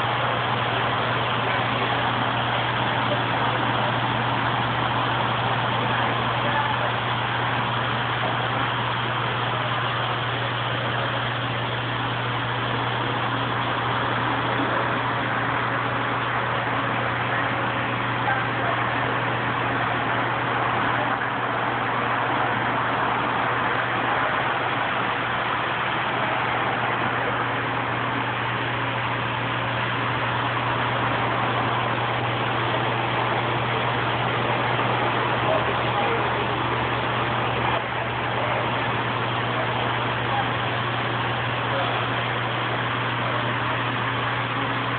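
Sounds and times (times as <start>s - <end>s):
pump hum: 0.0s - 44.9s.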